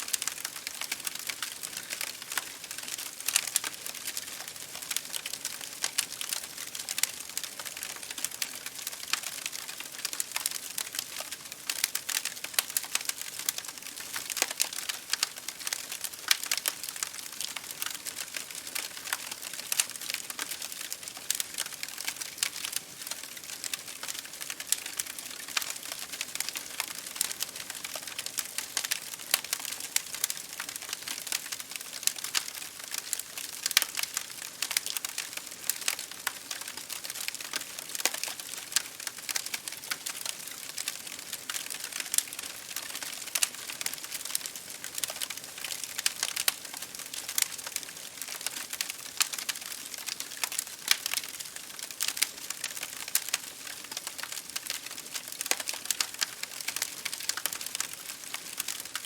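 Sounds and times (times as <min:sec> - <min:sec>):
wood fire crackling: 0:00.0 - 0:59.0
rain hitting a window pane: 0:00.1 - 0:59.0.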